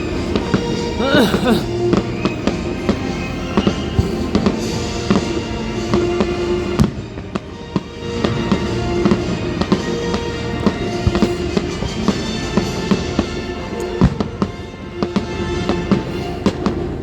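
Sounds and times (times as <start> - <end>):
fireworks bangs and crackles: 0.0 - 17.0
music with sustained tones: 0.0 - 17.0.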